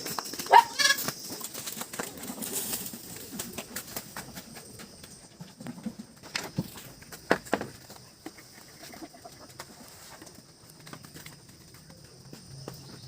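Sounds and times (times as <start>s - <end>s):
poultry or pigeon sounds: 0.0s - 13.0s.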